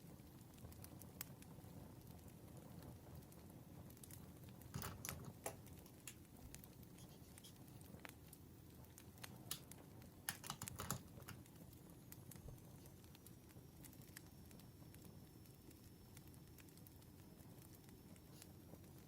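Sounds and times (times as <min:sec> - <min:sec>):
campfire crackling: 0:00.0 - 0:19.0
sharp pops and snaps of fire: 0:00.0 - 0:19.0.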